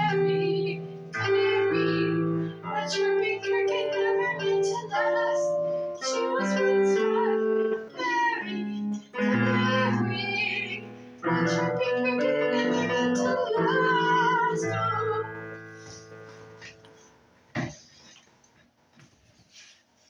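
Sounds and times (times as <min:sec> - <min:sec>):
keyboard chords: 0:00.0 - 0:17.1.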